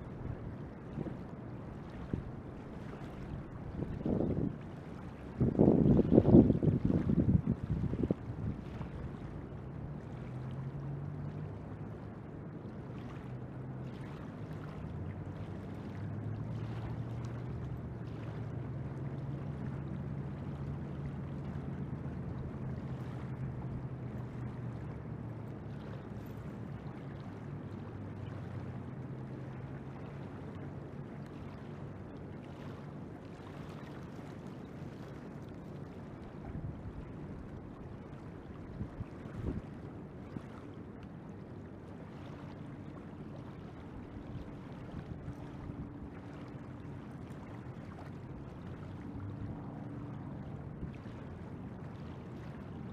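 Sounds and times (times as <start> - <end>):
low hum: 0.0 - 52.9.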